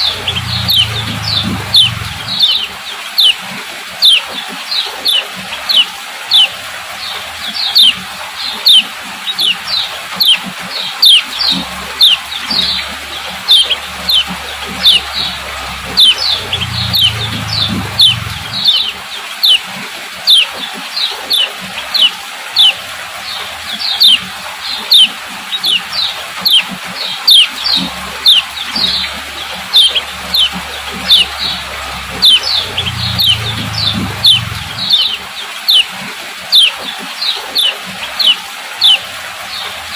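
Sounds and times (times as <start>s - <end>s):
bird chirping: 0.0s - 3.4s, 4.0s - 39.7s.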